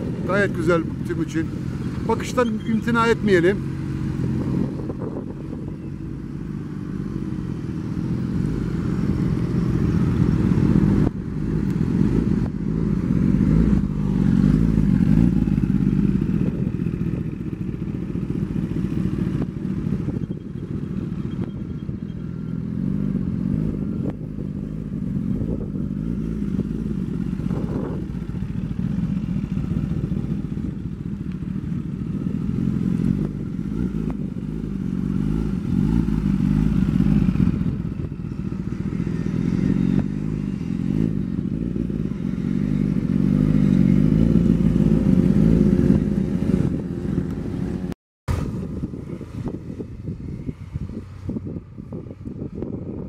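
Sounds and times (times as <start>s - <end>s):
motorcycle engines running slowly: 0.0s - 53.0s.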